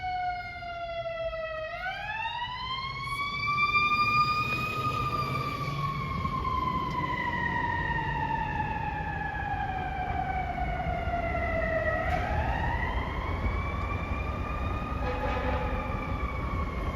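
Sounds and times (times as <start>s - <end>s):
fire truck siren wailing: 0.0s - 16.9s.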